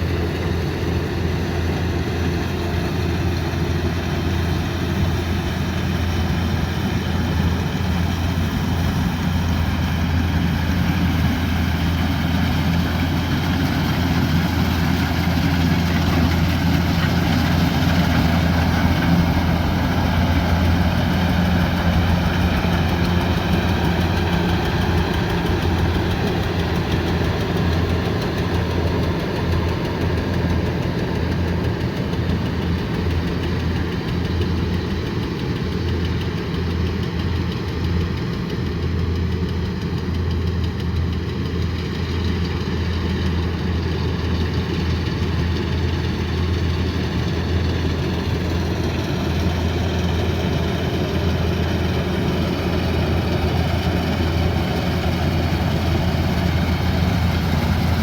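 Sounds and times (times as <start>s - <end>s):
harvester diesel engine running: 0.0s - 58.0s.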